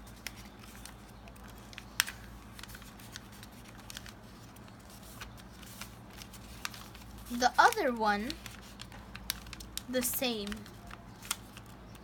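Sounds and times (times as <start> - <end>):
paper folding rustles and crackles: 0.0 - 12.0.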